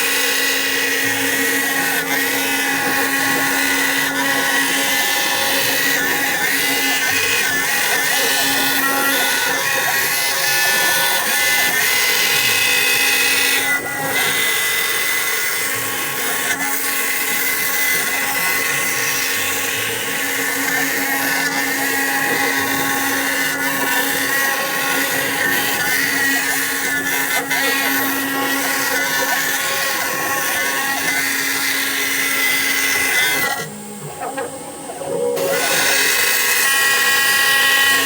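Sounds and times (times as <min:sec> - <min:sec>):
cnc router spindle whine: 0:00.0 - 0:38.0
machining noise cutting plastic: 0:00.0 - 0:38.0.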